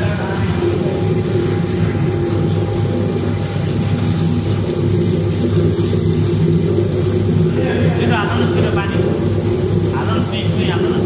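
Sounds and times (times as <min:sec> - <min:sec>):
water pouring: 0:00.0 - 0:11.0.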